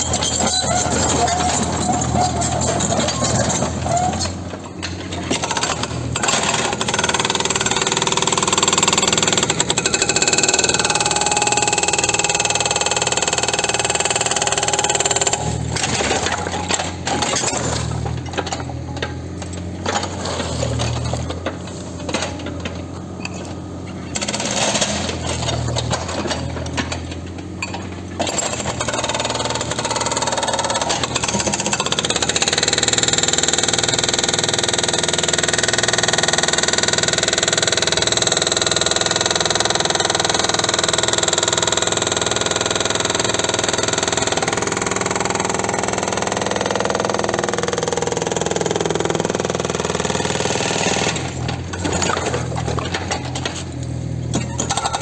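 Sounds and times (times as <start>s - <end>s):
machine running with rattling clatter: 0.0s - 55.0s.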